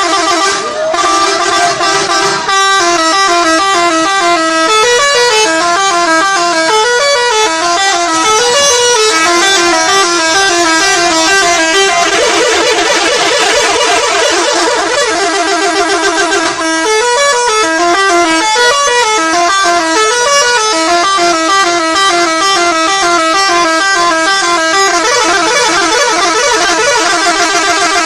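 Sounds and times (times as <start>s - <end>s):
musical air horn melody: 0.0s - 28.0s.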